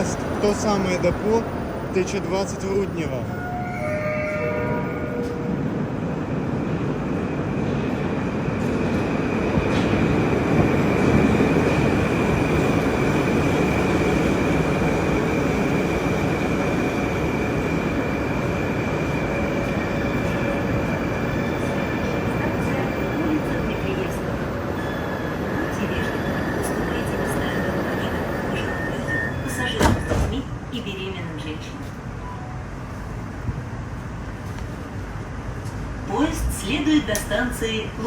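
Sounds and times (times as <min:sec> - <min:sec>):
wheels rumbling on rail: 0:00.0 - 0:38.0.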